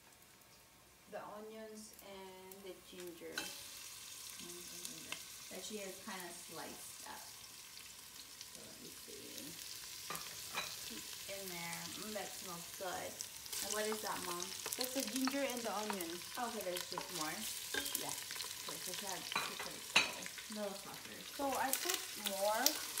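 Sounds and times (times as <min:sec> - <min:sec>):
garlic frying in oil: 0:01.7 - 0:23.0.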